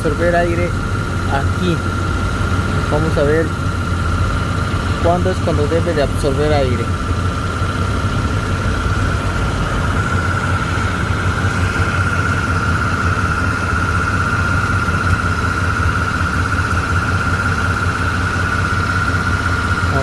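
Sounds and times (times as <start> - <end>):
high-pitched whine: 0.0 - 20.0
pickup engine idling: 0.0 - 20.0.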